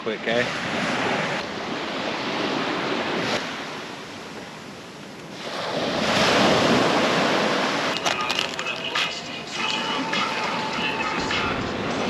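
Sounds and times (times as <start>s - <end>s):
surf washing on beach: 0.0s - 12.0s.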